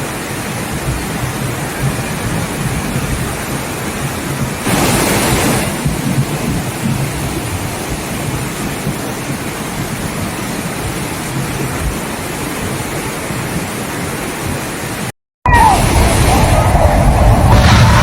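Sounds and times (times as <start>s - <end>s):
water rushing: 0.0s - 17.6s.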